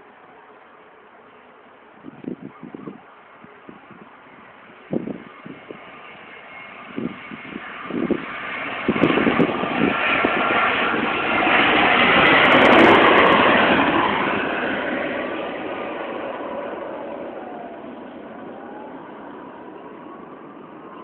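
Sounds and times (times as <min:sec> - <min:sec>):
jet engines passing: 0:00.0 - 0:21.0.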